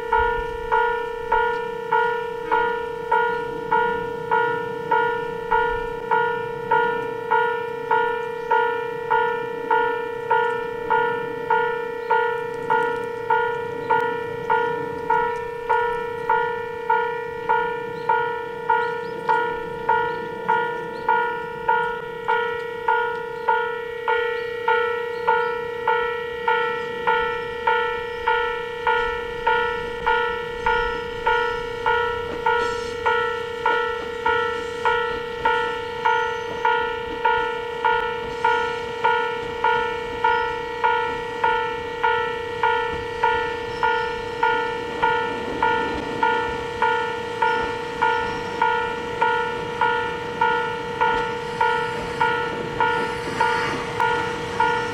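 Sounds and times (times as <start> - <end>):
level crossing bell ringing: 0.1 - 54.9.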